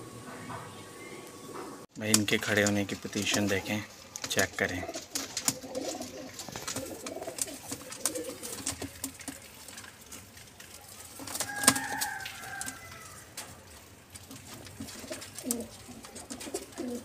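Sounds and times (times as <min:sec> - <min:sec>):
pigeons cooing: 0:00.0 - 0:01.9, 0:03.2 - 0:17.0.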